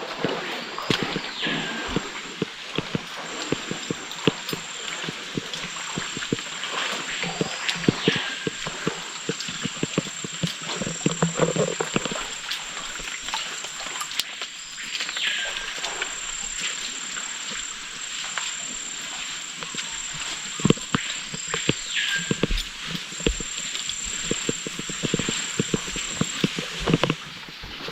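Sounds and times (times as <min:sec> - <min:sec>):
footsteps on a trail: 0:00.0 - 0:27.9
high-pitched insect drone: 0:00.2 - 0:27.8.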